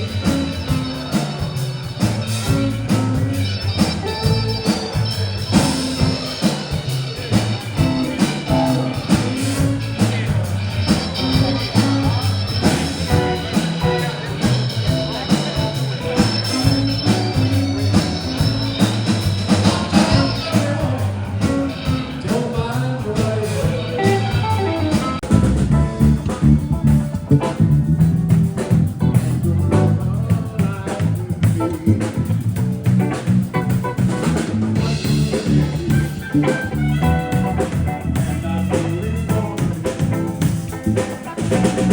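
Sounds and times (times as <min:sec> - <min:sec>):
live blues band with guitar: 0:00.0 - 0:41.9.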